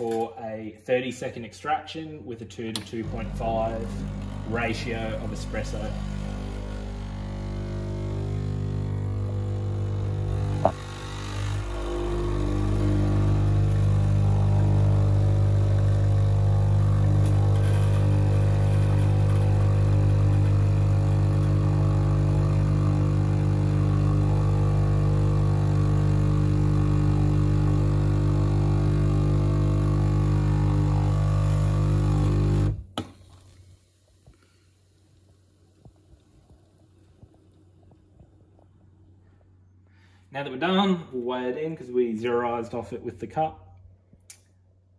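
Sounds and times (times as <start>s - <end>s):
espresso machine pump humming: 2.8s - 39.0s.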